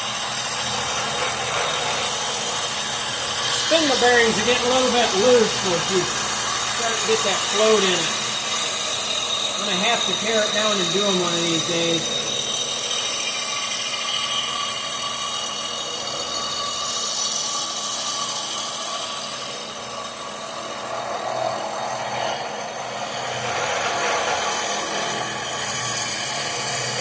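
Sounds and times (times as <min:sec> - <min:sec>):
power tool whining on metal: 0:00.0 - 0:27.0.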